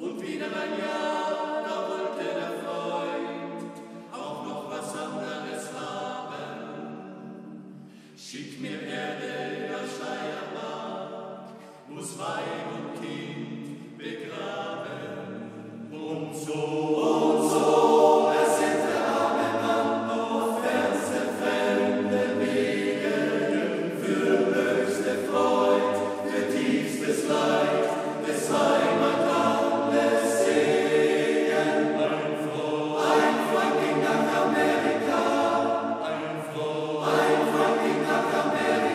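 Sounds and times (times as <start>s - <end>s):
male voice choir singing: 0.0s - 7.0s, 8.2s - 11.2s, 11.8s - 38.9s.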